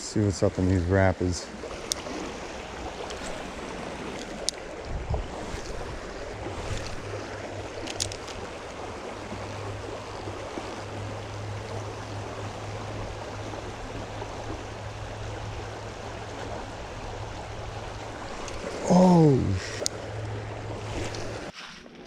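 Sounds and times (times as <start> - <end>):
creek rapids rushing: 0.0 - 21.5.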